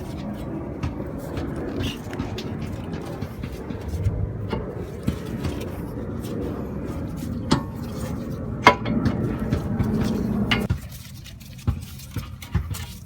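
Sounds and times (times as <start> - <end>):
low background rumble: 0.0 - 12.5.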